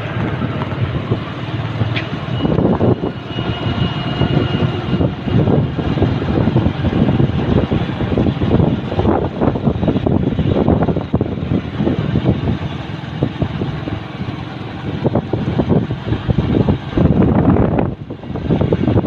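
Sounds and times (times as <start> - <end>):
vehicle engine and road rumble: 0.0 - 19.0
wind buffeting microphone: 0.0 - 19.0.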